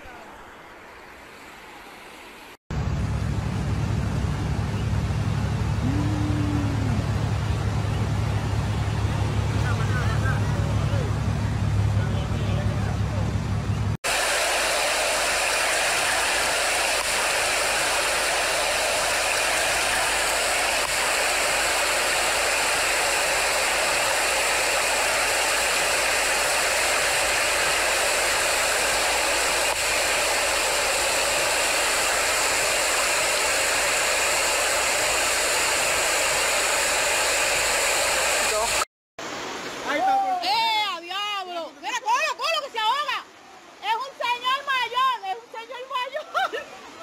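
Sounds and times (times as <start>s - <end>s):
floodwater rushing and roaring: 0.0s - 47.0s.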